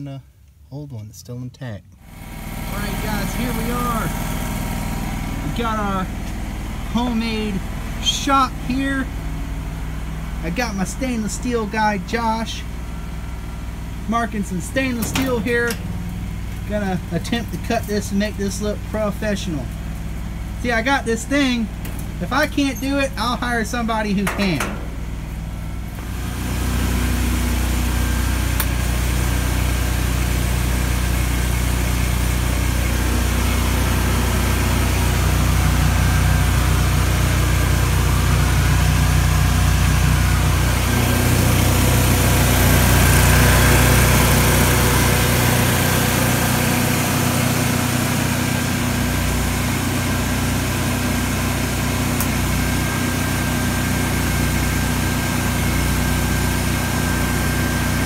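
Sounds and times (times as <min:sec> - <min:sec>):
engine running: 0:02.0 - 0:58.0.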